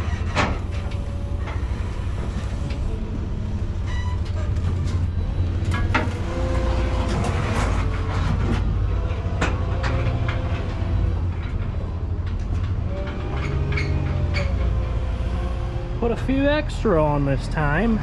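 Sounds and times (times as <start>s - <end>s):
rattles and clunks: 0.0s - 15.7s
truck engine drone: 0.0s - 18.0s.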